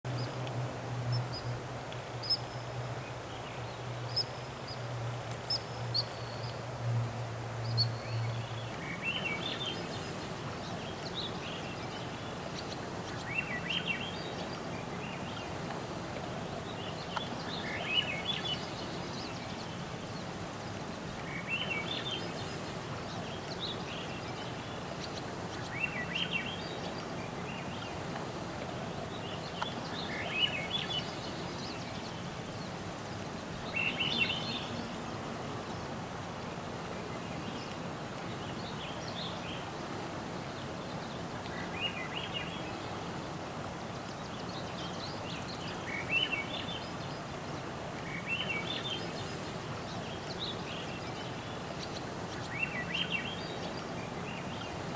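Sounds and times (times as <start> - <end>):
background hiss: 0.0 - 54.9
songbird singing: 0.0 - 54.9.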